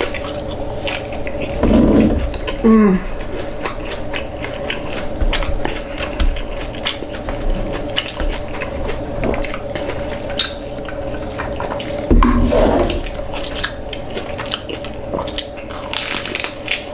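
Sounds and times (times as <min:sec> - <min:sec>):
crunchy chewing: 0:00.0 - 0:16.9
steady low hum: 0:00.0 - 0:16.9.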